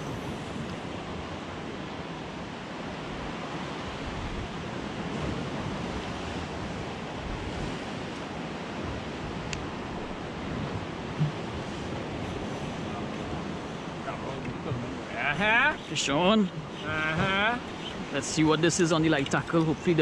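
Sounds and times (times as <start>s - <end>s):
sea water washing around boat: 0.0s - 20.0s
wind: 0.0s - 20.0s.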